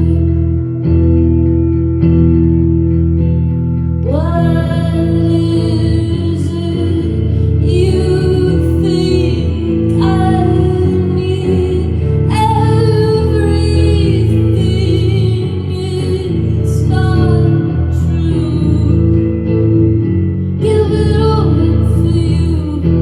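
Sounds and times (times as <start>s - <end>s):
woman singing: 0.0s - 0.8s, 4.0s - 19.6s, 20.6s - 23.0s
guitar accompaniment: 0.0s - 23.0s.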